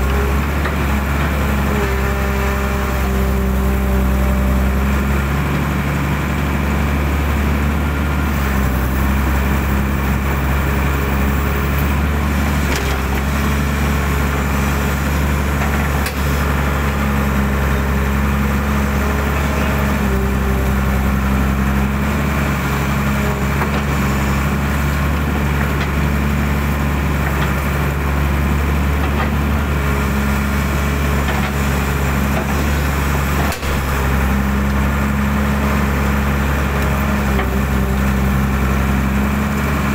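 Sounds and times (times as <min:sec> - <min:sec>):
excavator diesel engine running: 0:00.0 - 0:39.9
hydraulics whining: 0:07.7 - 0:39.9.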